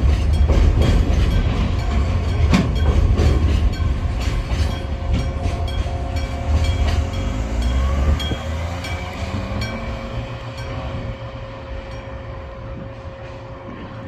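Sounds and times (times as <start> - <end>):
wheels clacking over rail joints: 0.0 - 11.5
freight train rumbling: 0.0 - 14.0.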